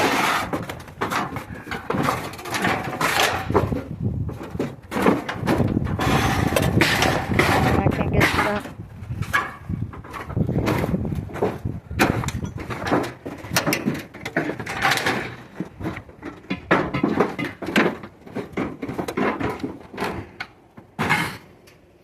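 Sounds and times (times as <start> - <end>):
scrap knocking and clattering: 0.0 - 21.5.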